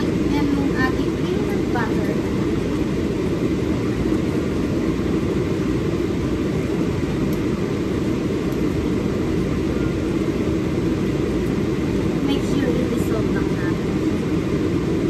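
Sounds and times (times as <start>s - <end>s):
steady low rumbling: 0.0s - 15.0s.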